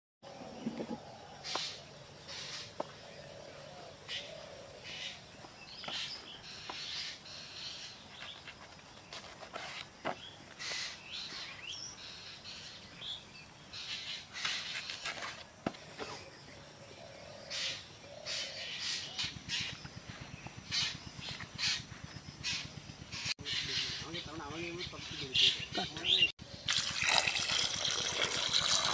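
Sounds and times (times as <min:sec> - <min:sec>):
birds calling: 0:00.2 - 0:27.0.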